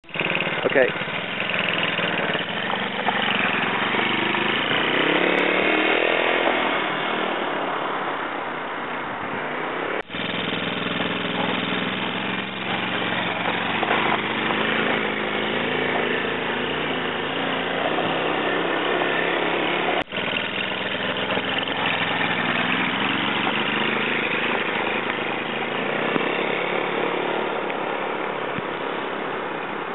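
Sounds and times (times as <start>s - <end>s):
mini quad bike engine: 0.0s - 7.6s, 10.1s - 29.9s.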